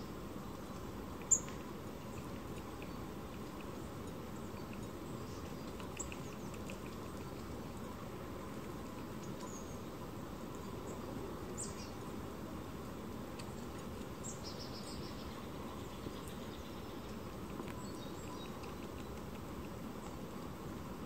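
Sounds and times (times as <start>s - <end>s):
small songbirds calling: 0.0s - 7.7s, 9.1s - 12.2s, 13.4s - 20.2s
background hiss and rumble: 0.0s - 21.0s.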